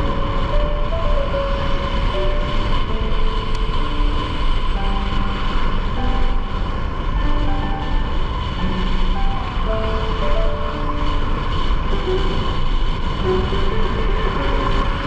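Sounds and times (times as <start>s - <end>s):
motorbike wind and road noise: 0.0s - 15.0s
tune of short held notes: 0.0s - 15.0s.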